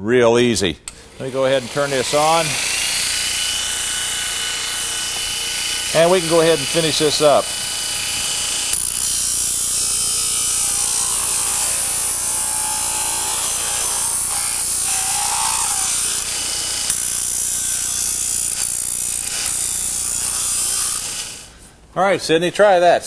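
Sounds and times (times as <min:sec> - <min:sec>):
sander grinding sheet metal: 0:00.9 - 0:21.6.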